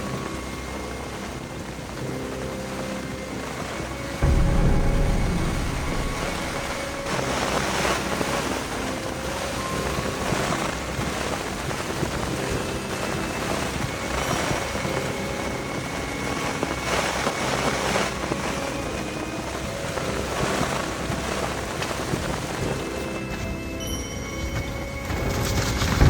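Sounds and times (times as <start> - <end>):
strong gusting wind: 1.4 - 23.8.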